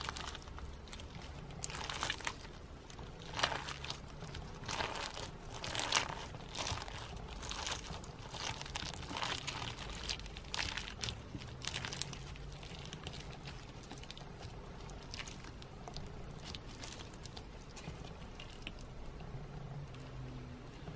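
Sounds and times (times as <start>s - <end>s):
sequins crunching and crinkling: 0.0s - 20.3s.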